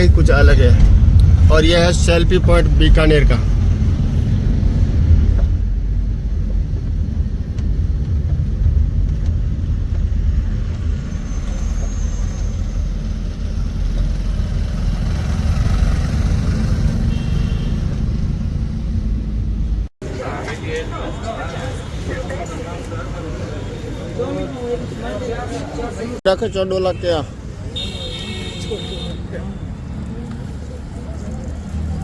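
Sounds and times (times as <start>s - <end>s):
car engine and road noise: 0.0s - 32.0s.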